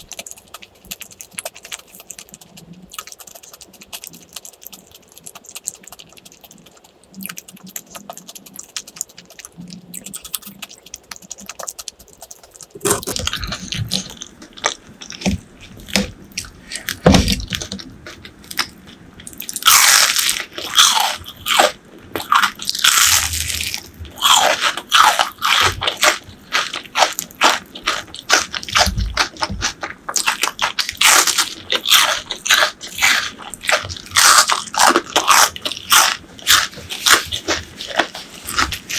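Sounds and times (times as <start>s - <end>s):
crunching bites and chewing: 0.0s - 38.9s.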